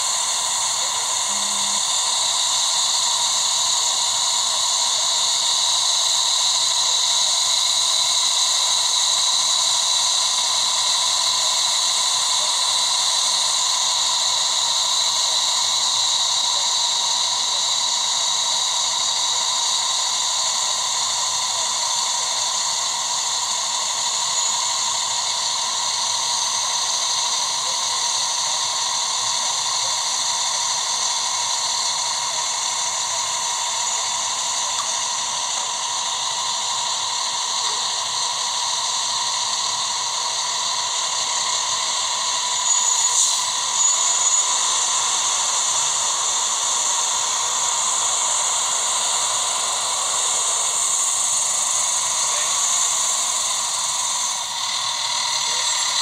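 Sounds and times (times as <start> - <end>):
steady hissing: 0.0 - 56.0.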